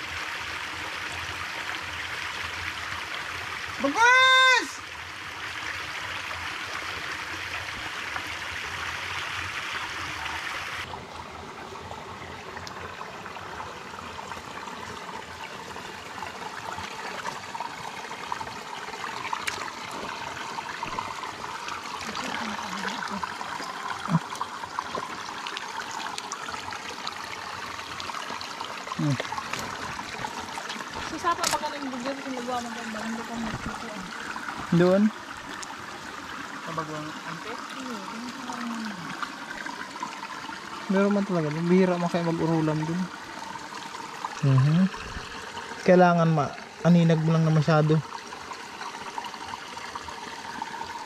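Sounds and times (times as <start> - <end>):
creek gurgling over rocks: 0.0 - 51.0.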